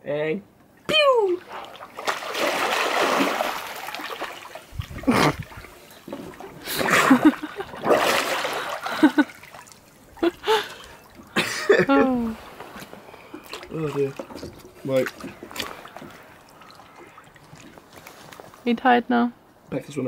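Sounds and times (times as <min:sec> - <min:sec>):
swimmer splashing water: 0:01.2 - 0:18.6.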